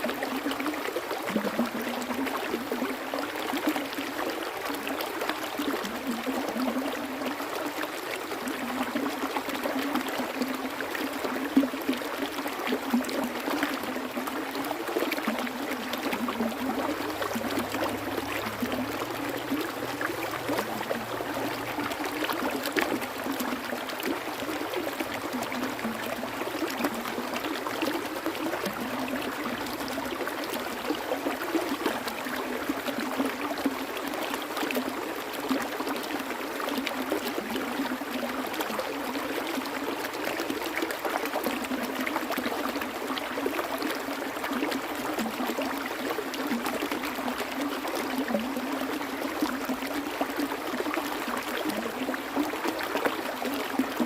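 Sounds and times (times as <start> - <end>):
stream trickling and gurgling: 0.0 - 54.0
water splashes: 0.0 - 54.0.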